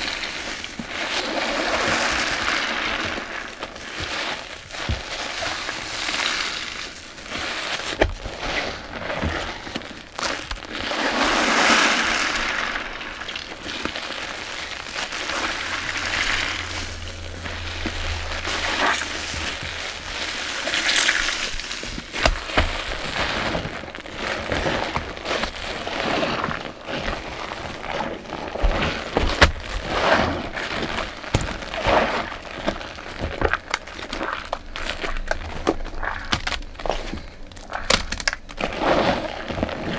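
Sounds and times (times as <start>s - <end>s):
foam popping: 0.0s - 39.9s
sponge squelching in suds: 0.0s - 39.9s.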